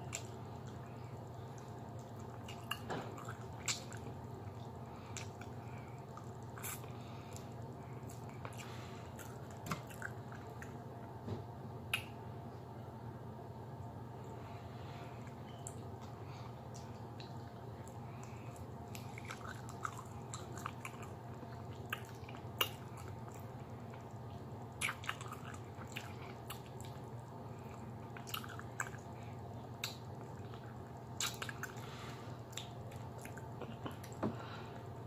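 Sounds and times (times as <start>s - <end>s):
person chewing wet smacks: 0.0s - 11.2s, 15.2s - 35.0s
steady low hum: 0.0s - 35.0s.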